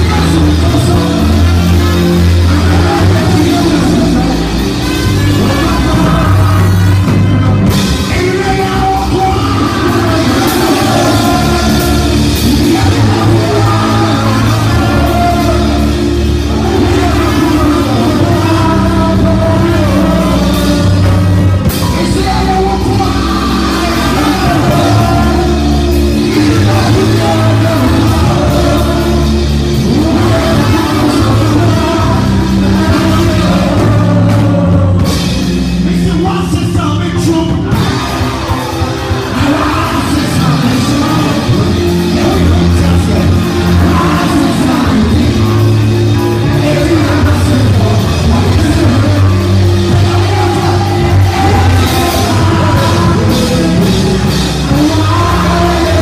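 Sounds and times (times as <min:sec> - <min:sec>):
band playing praise music: 0:00.0 - 0:56.0
man singing through a microphone: 0:00.0 - 0:56.0.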